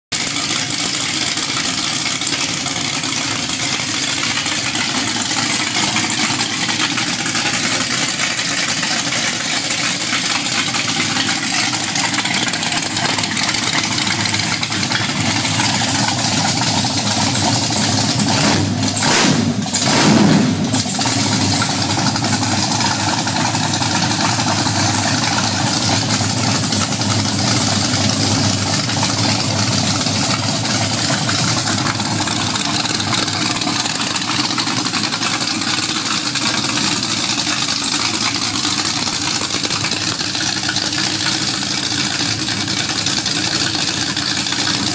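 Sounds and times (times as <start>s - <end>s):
unmuffled car engine running: 0.0s - 44.9s.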